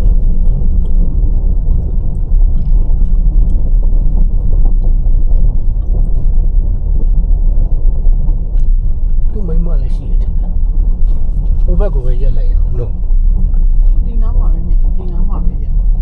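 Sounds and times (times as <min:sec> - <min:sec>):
road vehicle rumbling: 0:00.0 - 0:16.0.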